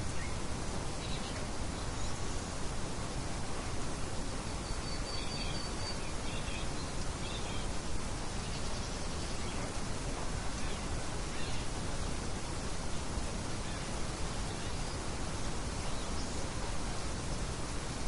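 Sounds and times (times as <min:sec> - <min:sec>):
faint birds chirping: 0:00.0 - 0:18.0
light wind noise: 0:00.0 - 0:18.0.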